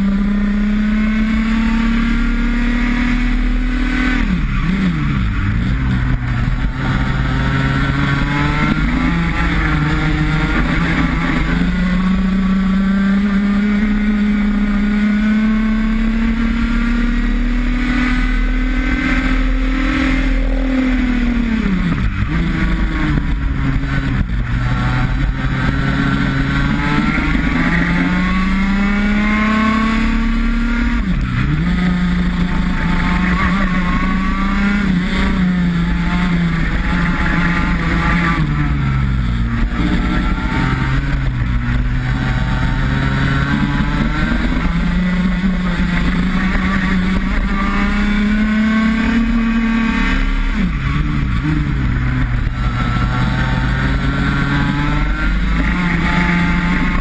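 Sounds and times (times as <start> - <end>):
kart engine at racing speed: 0.0 - 57.0.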